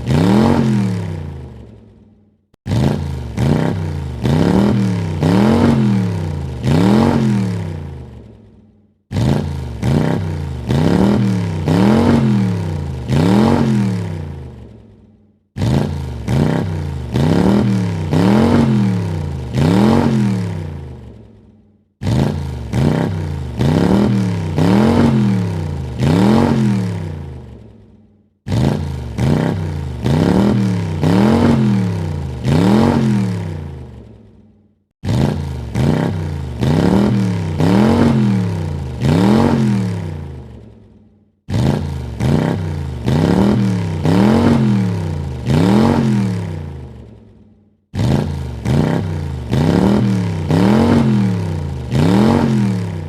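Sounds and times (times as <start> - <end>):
car engine revving: 0.0 - 1.8, 2.6 - 8.3, 9.1 - 14.8, 15.6 - 21.3, 22.0 - 27.7, 28.5 - 34.1, 35.0 - 40.7, 41.5 - 47.2, 48.0 - 53.0.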